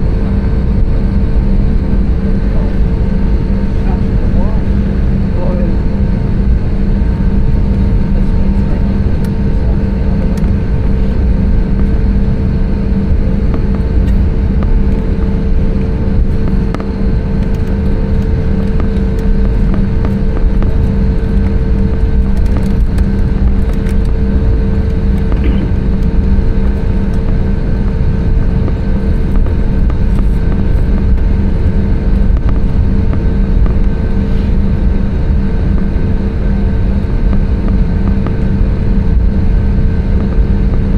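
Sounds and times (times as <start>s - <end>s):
airplane cabin engine roar: 0.0s - 40.9s
constant low hum: 0.0s - 40.9s.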